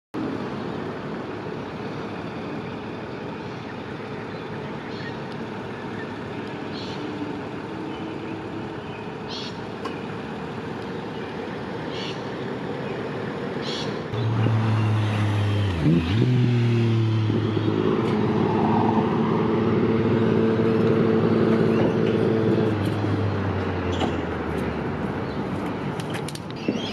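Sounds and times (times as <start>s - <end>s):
road and engine noise: 0.1s - 26.9s.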